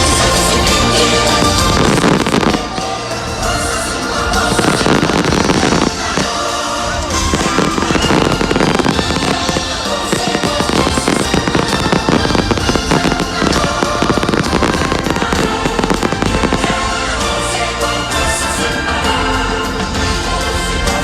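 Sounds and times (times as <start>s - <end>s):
fireworks bangs and crackles: 0.0s - 21.0s
loud music: 0.0s - 21.0s.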